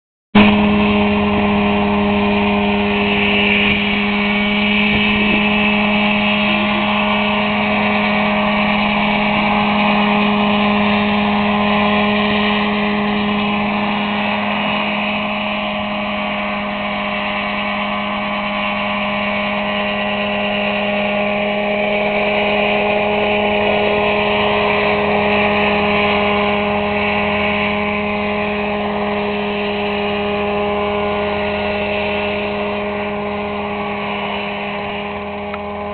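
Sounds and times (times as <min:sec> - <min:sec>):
helicopter engine and rotors droning: 0:00.4 - 0:35.9.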